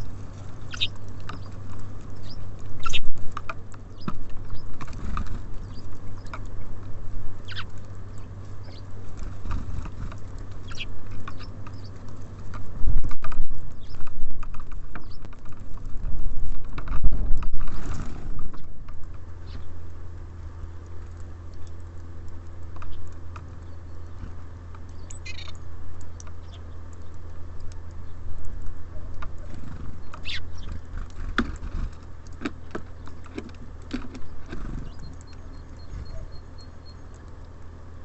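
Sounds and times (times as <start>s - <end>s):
birds pecking at seed: 0.0s - 38.0s
low steady hum: 0.0s - 38.0s.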